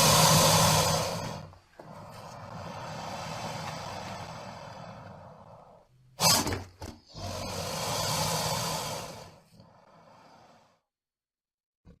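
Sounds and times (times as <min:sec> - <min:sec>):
crocodile hissing: 0:00.0 - 0:10.8.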